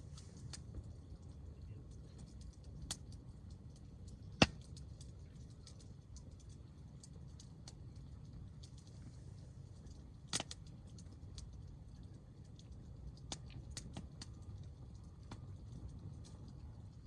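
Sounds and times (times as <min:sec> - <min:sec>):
small ticks: 0:00.0 - 0:17.0
wood fire crackling: 0:00.0 - 0:17.0.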